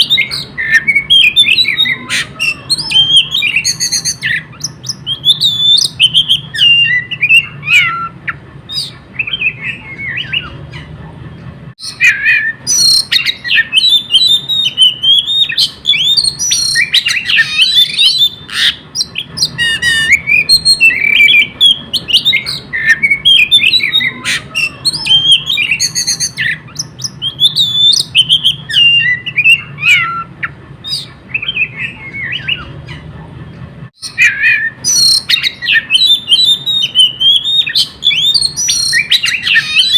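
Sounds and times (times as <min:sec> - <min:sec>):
bird singing varied whistles: 0:00.0 - 0:08.1, 0:11.8 - 0:30.3, 0:34.0 - 0:39.9.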